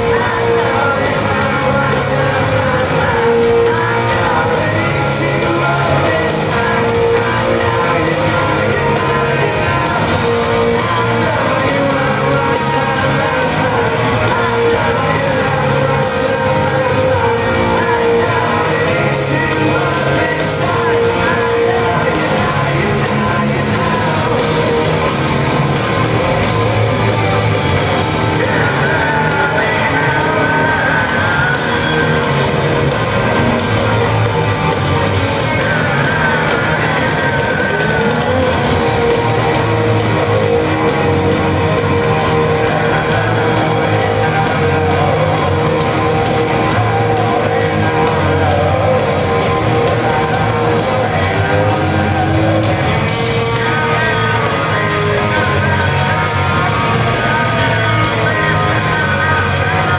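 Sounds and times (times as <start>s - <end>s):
drums: 0.0s - 59.9s
electric guitar: 0.0s - 59.9s
person singing: 0.0s - 59.9s.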